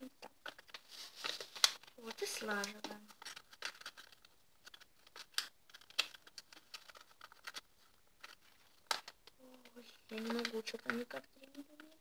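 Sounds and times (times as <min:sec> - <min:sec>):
paper rustling and creasing: 0:00.2 - 0:12.0.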